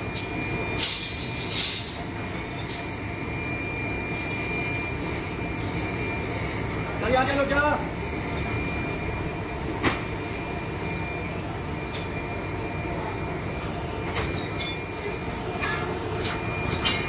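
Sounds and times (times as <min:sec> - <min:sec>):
foundry machinery hum: 0:00.0 - 0:17.0
high machine whine: 0:00.0 - 0:17.0.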